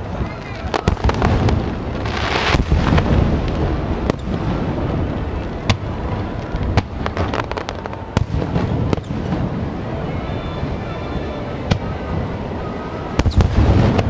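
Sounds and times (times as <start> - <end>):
fireworks bursting with sharp bangs: 0.0 - 14.0
hissing crackle: 0.0 - 14.0.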